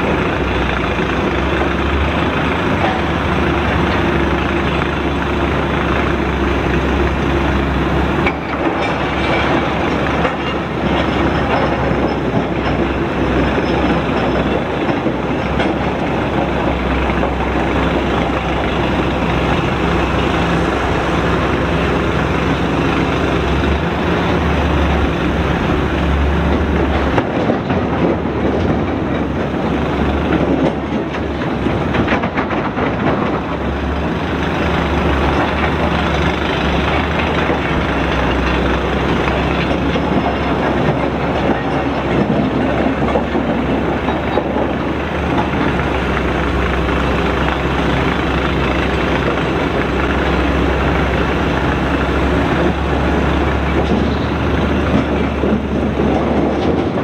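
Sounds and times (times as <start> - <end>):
truck diesel engine running: 0.0 - 57.0
truck driving on gravel: 0.0 - 57.0.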